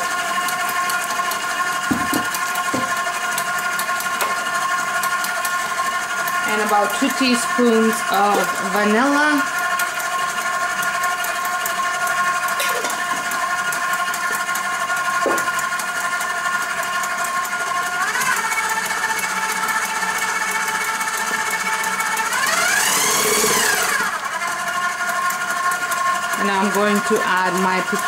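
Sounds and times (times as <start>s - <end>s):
stand mixer motor whine: 0.0s - 28.0s
whisk in steel bowl: 0.0s - 28.0s.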